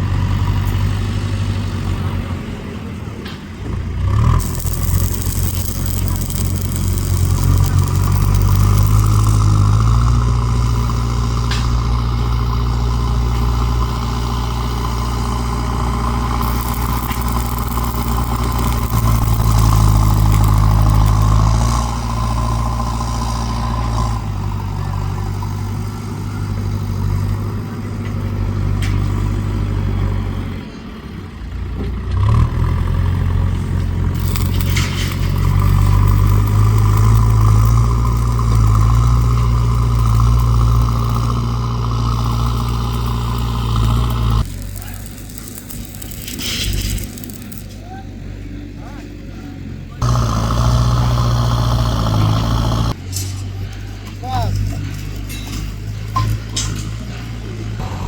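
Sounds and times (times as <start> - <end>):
vehicle engine running: 3.8 - 53.0.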